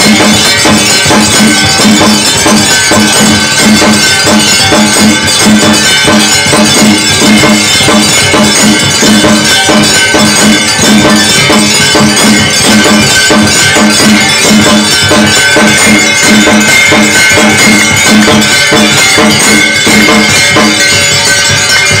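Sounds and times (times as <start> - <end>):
brass bells clanging: 0.0 - 22.0.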